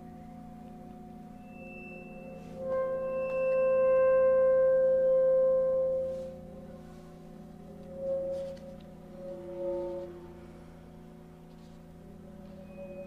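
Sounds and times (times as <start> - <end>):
quiet low drone: 0.0 - 13.0.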